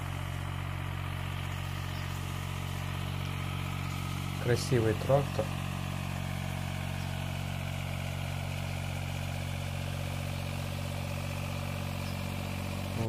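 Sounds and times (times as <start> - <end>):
rotary tiller working ground: 0.0 - 13.0
tractor engine running steadily: 0.0 - 13.0.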